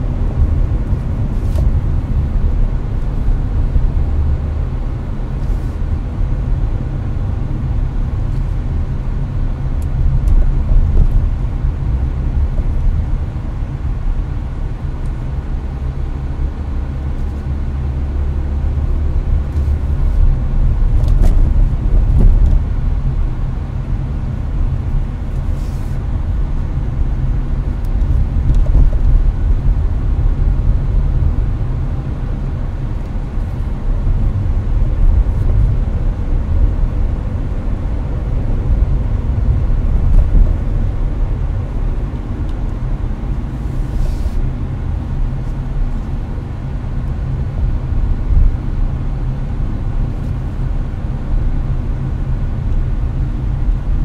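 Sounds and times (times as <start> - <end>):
air conditioner blowing: 0.0 - 54.0
road and engine rumble: 0.0 - 54.0.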